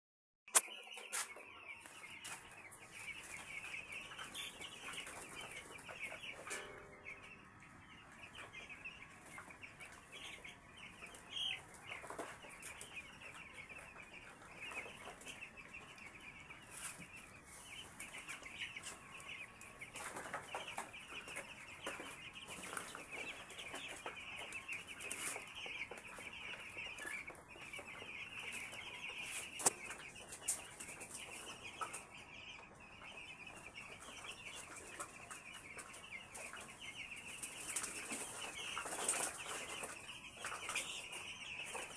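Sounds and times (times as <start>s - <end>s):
chicks peeping: 0.5s - 41.9s.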